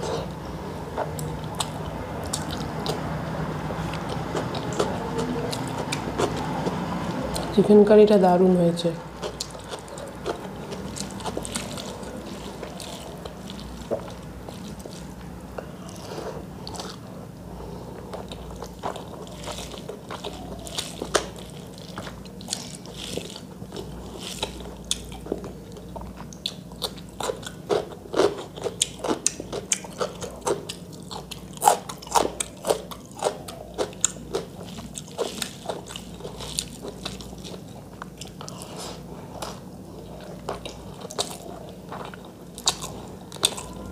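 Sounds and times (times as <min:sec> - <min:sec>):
chewing and mouth sounds: 0:00.9 - 0:03.2, 0:03.8 - 0:07.6, 0:09.2 - 0:17.1, 0:17.9 - 0:43.9.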